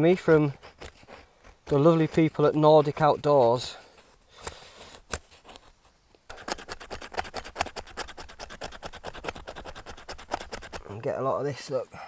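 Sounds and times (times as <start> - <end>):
knife scraping wood: 0.0 - 11.0.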